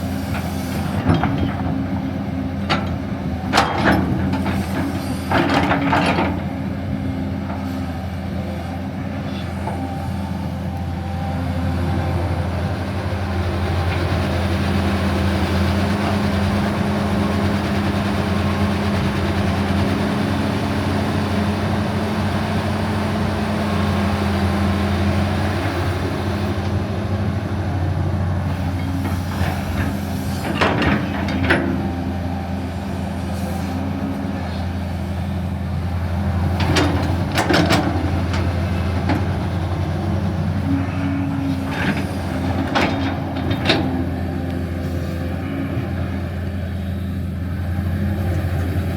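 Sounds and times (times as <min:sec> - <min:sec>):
machine engine humming: 0:00.0 - 0:48.9.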